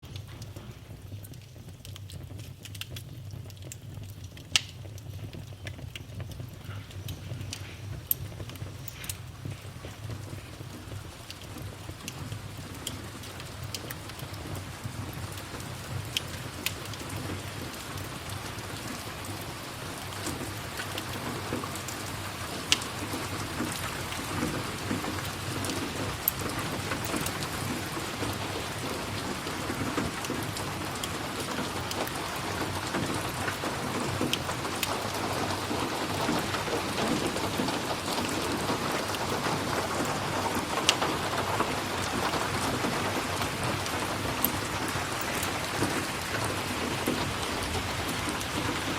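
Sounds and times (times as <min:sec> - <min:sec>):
sharp crackles: 0:00.0 - 0:48.9
steady rain falling: 0:00.0 - 0:48.9.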